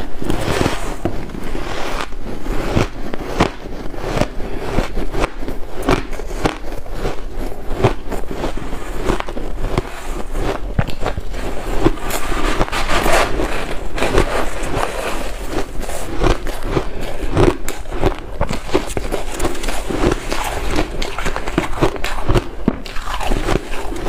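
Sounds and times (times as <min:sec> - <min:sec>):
ice crunching between teeth: 0:01.6 - 0:24.0.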